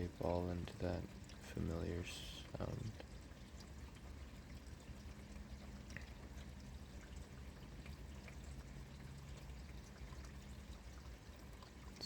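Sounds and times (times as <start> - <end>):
water pouring into gutter: 0.0 - 12.0.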